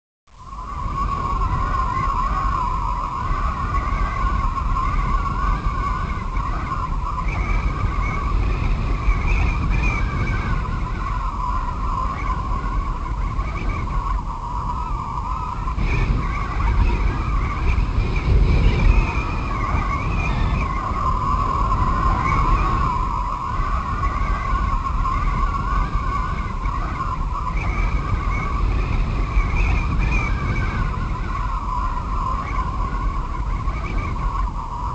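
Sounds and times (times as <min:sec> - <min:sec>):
howling storm wind: 0:00.3 - 0:34.9.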